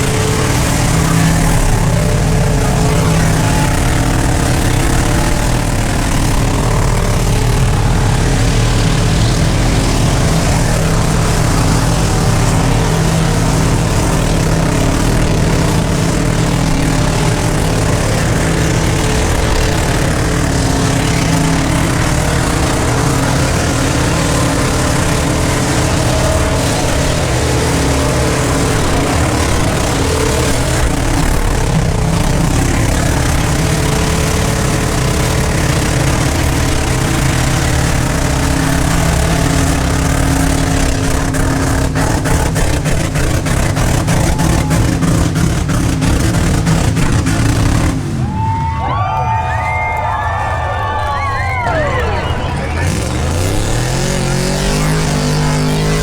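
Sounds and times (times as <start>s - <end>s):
loud engine running: 0.0s - 56.0s.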